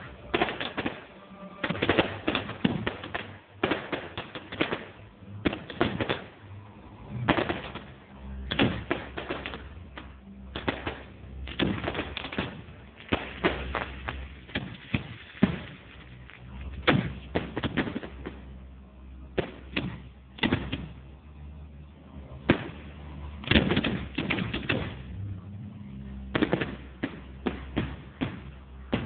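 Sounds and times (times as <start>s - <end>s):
fireworks bangs: 0.0s - 18.6s, 19.3s - 21.0s, 22.4s - 25.2s, 26.2s - 29.0s.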